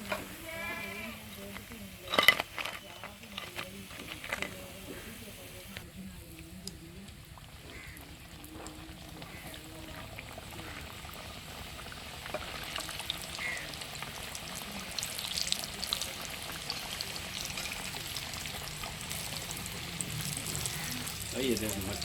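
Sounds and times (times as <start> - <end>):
food deep-frying in hot oil: 0.0 - 22.0.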